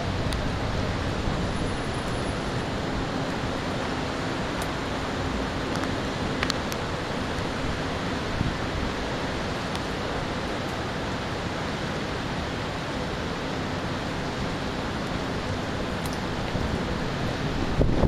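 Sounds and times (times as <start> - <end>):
storm rain hissing: 0.0 - 18.0.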